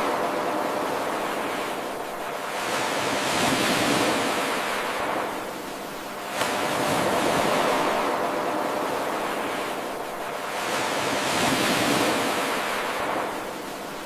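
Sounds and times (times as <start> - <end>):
ocean surf washing in: 0.0 - 14.0.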